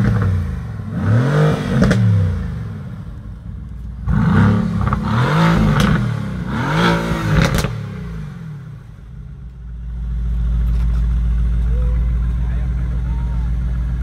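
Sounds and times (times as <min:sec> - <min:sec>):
car engine revving: 0:00.0 - 0:14.0
exhaust crack: 0:00.0 - 0:14.0.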